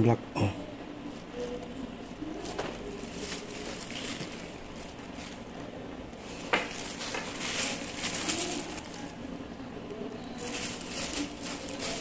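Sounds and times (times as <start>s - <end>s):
plastic glove crinkling: 1.0s - 12.0s.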